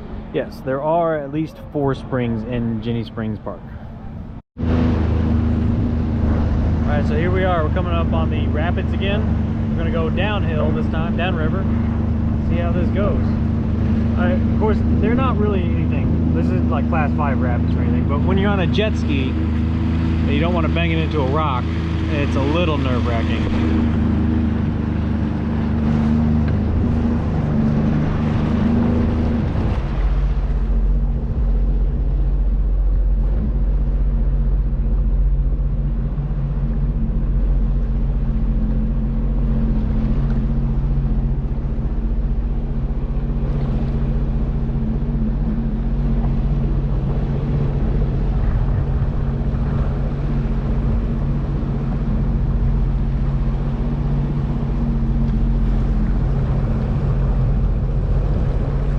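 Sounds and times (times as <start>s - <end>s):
jet ski engine running: 0.0s - 58.9s.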